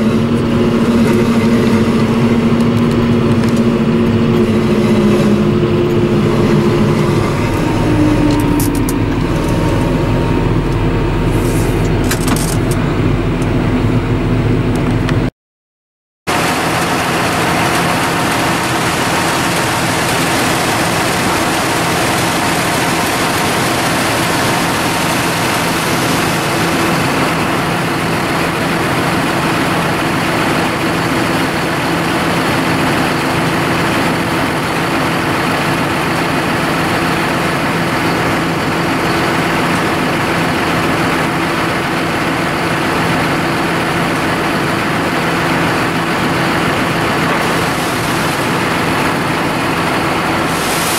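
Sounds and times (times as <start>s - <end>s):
tractor diesel engine running: 0.0s - 15.3s, 16.3s - 50.9s.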